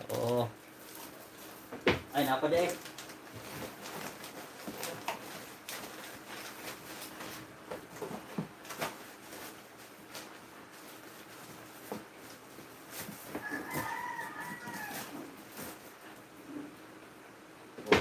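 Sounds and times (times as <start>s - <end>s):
items packed into cardboard box: 0.0s - 16.0s
plastic bag rustling: 0.0s - 16.3s.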